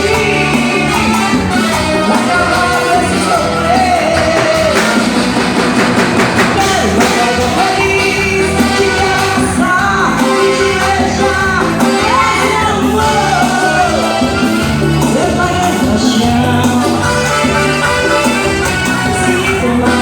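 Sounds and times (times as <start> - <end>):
woman singing: 0.0 - 5.2, 6.6 - 20.0
band music: 0.0 - 20.0.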